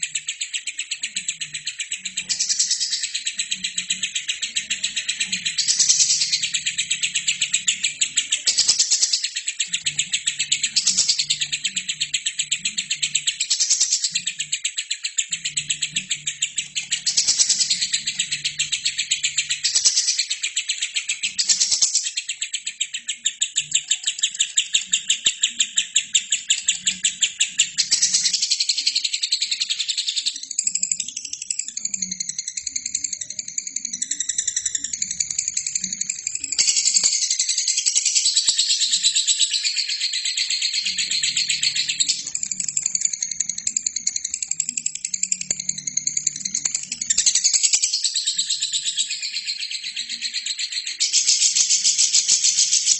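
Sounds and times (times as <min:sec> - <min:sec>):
bird chattering trill: 0:00.0 - 0:52.9.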